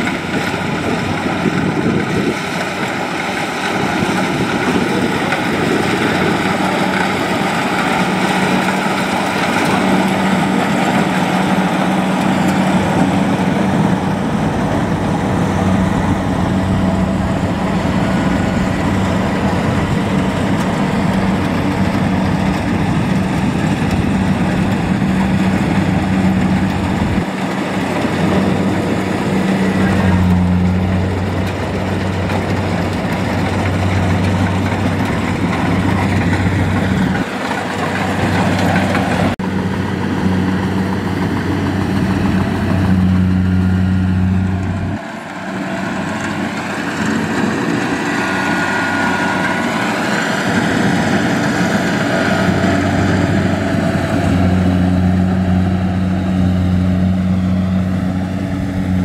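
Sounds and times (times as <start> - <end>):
combine harvester diesel engine: 0.0 - 59.0.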